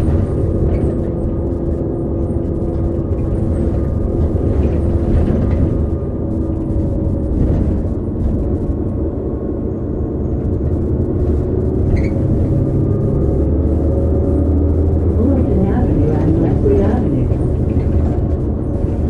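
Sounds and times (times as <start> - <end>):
bus engine low rumble: 0.0 - 19.0.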